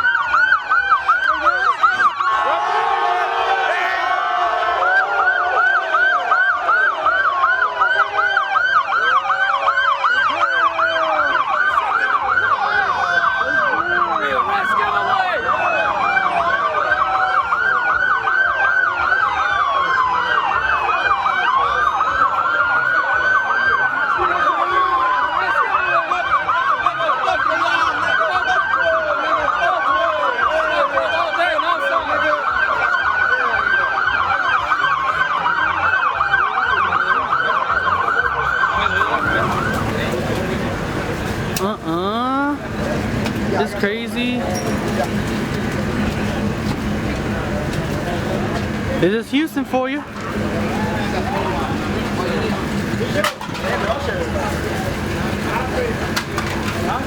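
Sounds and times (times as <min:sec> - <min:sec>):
police sirens wailing: 0:00.0 - 0:57.0
police sirens yelping: 0:00.0 - 0:57.0.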